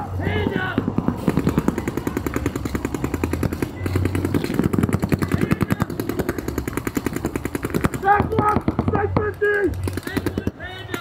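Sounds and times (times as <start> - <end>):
paintball markers firing rapidly: 0.2 - 11.0.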